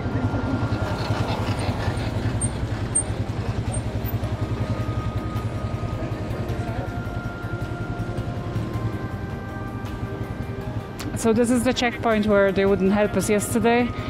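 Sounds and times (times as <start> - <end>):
motorcycle engine at low revs: 0.0 - 11.8.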